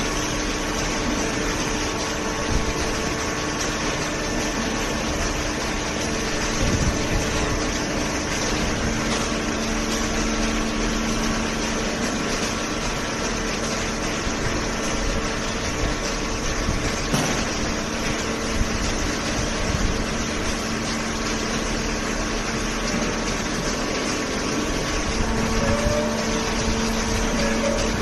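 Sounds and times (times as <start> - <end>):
hydraulic baler humming: 0.0 - 28.0
low mechanical tone: 0.0 - 28.0.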